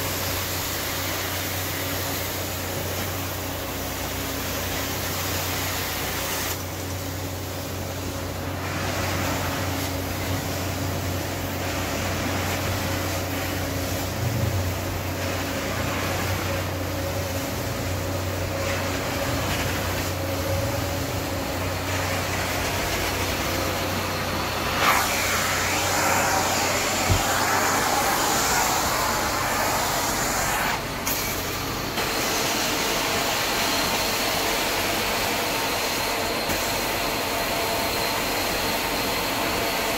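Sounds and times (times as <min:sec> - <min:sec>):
carpet extraction machine running: 0:00.2 - 0:39.9.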